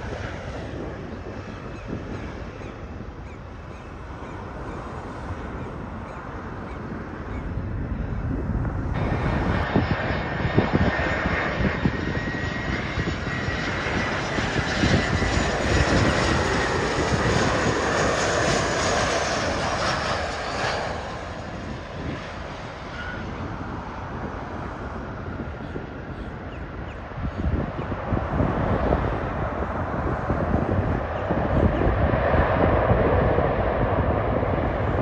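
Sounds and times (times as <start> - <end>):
aircraft engines passing by: 0.0 - 35.0.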